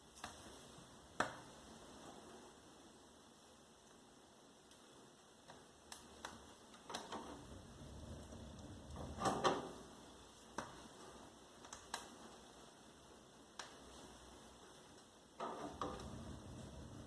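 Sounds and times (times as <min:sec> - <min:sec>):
wood fire crackling and popping: 0:00.0 - 0:02.7, 0:03.8 - 0:17.0.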